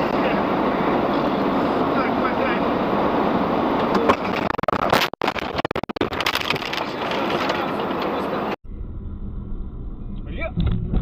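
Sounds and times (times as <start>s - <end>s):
vehicle driving: 0.0s - 11.0s.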